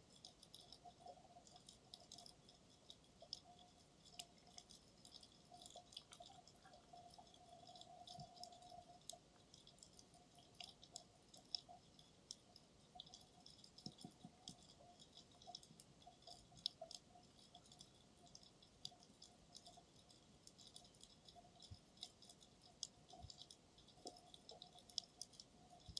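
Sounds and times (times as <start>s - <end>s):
faint steady hum: 0.0s - 25.9s
underwater clicking crackle: 0.0s - 25.9s.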